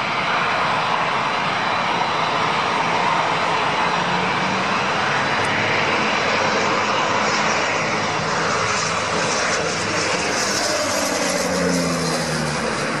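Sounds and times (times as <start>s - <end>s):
propeller aircraft engines running: 0.0s - 13.0s.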